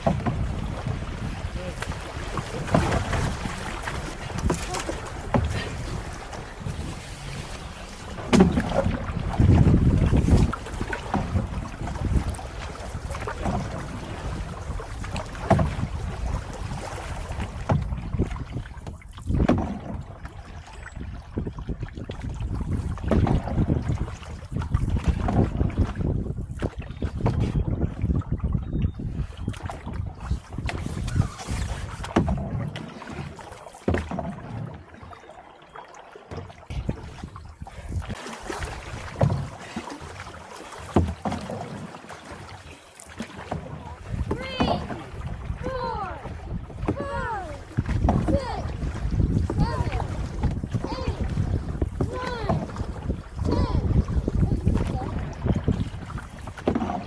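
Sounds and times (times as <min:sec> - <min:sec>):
wind rumble on microphone: 0:00.0 - 0:33.3, 0:36.3 - 0:39.8, 0:43.4 - 0:57.0
paddle strokes splashing: 0:00.0 - 0:57.0.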